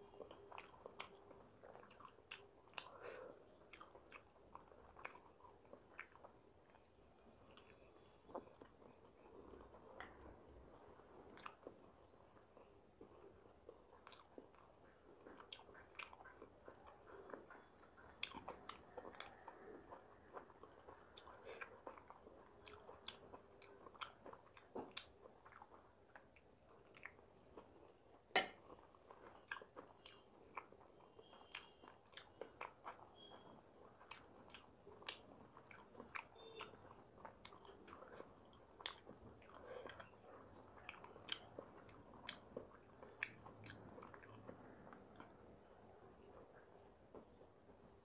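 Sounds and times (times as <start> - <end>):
person chewing and biting food: 0.1 - 45.5.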